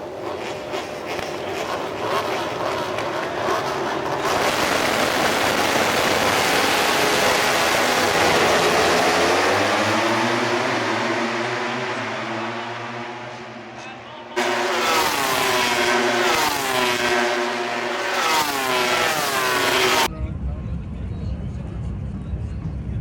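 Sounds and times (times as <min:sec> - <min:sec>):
racing motorcycles passing: 0:00.0 - 0:20.1.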